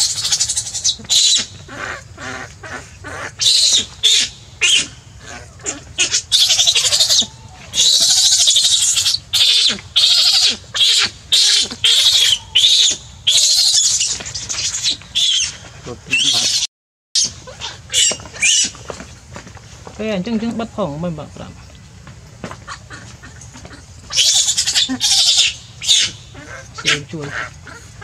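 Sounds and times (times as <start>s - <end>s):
baby monkey screaming: 0.0s - 18.8s, 22.6s - 28.0s.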